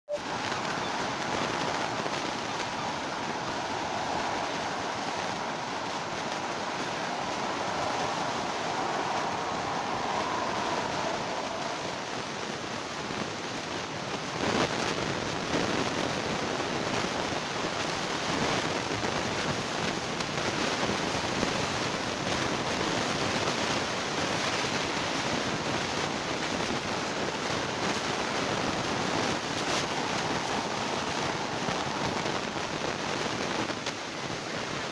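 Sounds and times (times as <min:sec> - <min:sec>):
steady rushing noise: 0:00.1 - 0:34.9.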